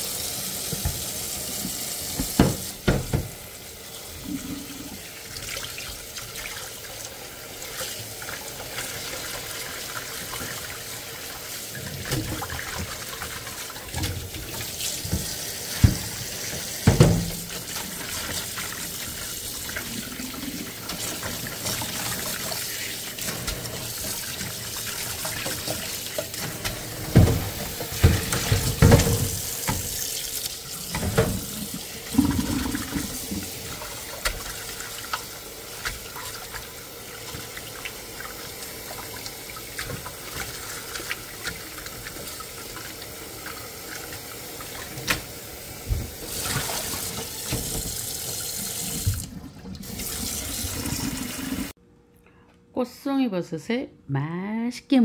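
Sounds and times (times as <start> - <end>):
tap water running into pot: 0.0 - 51.8
bumps and splashes in sink: 0.6 - 6.8, 7.6 - 51.7.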